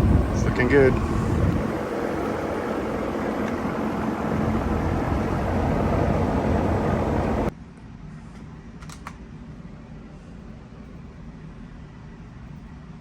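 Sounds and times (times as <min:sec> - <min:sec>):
air conditioner running: 0:00.0 - 0:13.0
quiet steady background noise: 0:00.0 - 0:13.0.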